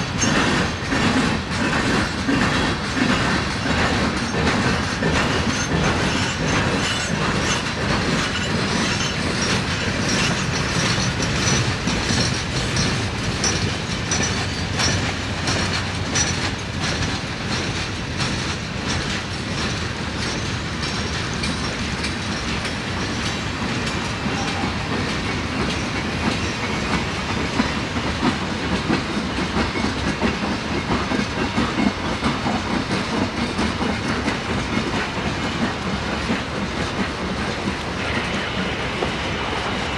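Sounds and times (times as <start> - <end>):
freight train rumble: 0.0 - 39.9
wheels clattering over rail joints: 0.1 - 37.7.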